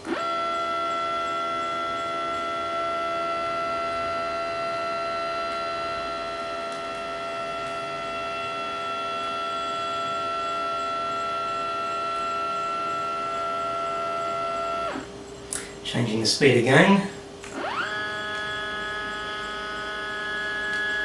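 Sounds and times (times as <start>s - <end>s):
stepper motor whining: 0.0s - 15.8s, 17.4s - 21.0s.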